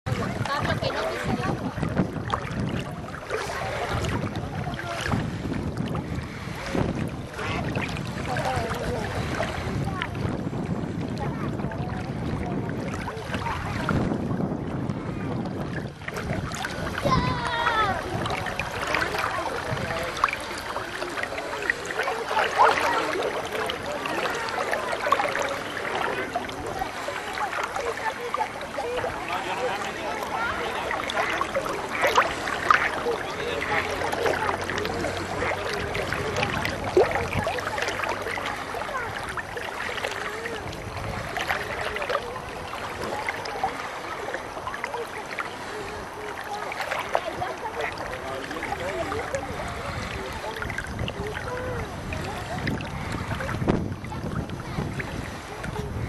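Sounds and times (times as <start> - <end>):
small waves lapping and splashing: 0.0 - 56.0
wind buffeting microphone: 0.1 - 56.0.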